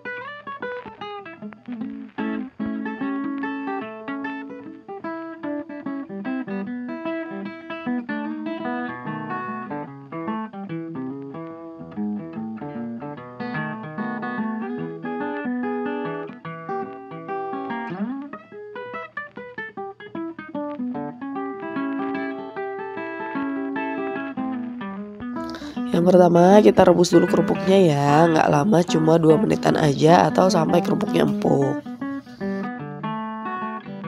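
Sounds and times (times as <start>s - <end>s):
plucked acoustic guitar: 0.0s - 34.0s.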